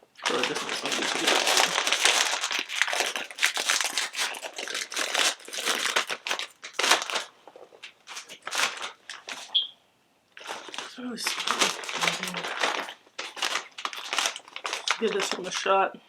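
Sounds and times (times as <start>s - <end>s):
plastic snack bag crinkling: 0.1s - 9.6s, 10.4s - 15.9s.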